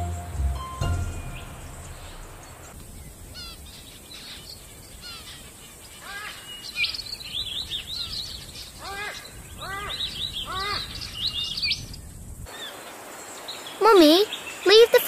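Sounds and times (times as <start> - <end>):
steady background hiss: 0.0 - 15.0
wild birds chirping: 0.0 - 15.0.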